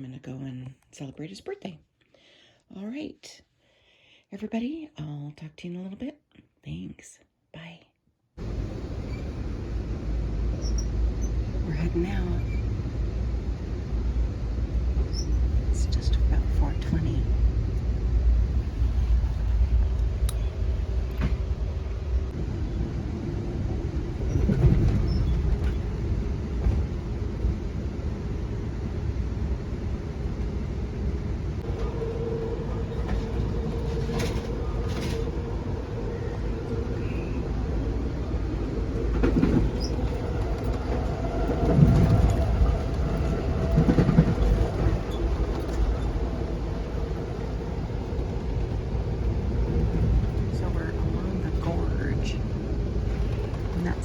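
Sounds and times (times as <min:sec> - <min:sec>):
train rumbling: 0:08.4 - 0:54.0.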